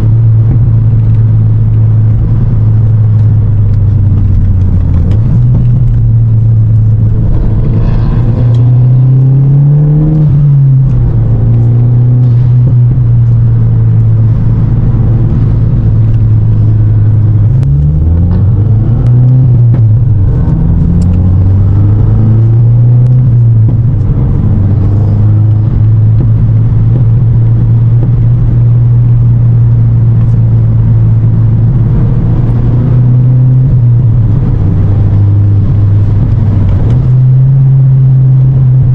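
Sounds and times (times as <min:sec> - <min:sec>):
car engine drone: 0:00.0 - 0:38.9
road noise: 0:00.0 - 0:38.9.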